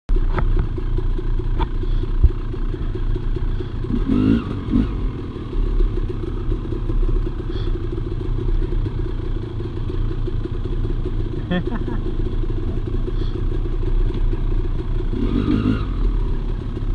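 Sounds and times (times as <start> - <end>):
dirt bike engine chugging: 0.1 - 16.9.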